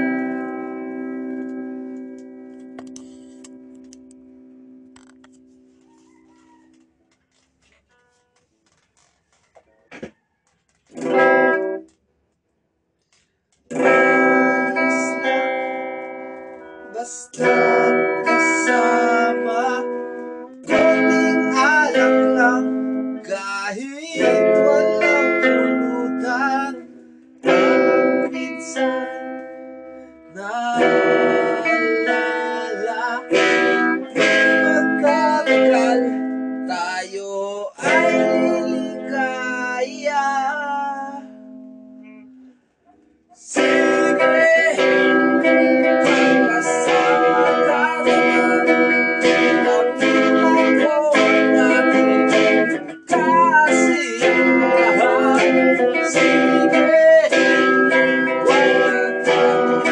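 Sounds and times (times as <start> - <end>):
guitar strummed and picked: 0.0 - 6.1, 10.9 - 12.0, 13.6 - 59.9.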